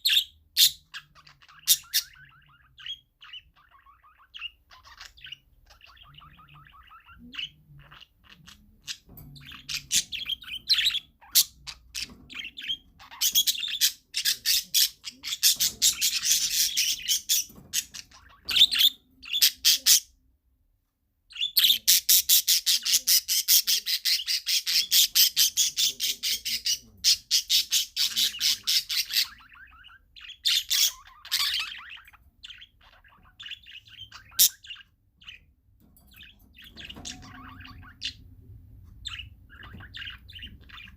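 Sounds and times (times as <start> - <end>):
parakeets chirping and chattering: 0.0 - 20.4, 21.2 - 40.9.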